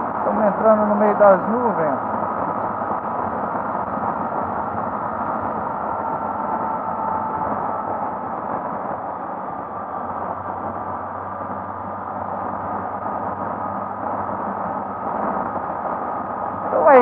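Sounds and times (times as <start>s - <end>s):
wind rush over microphone: 0.0s - 17.0s.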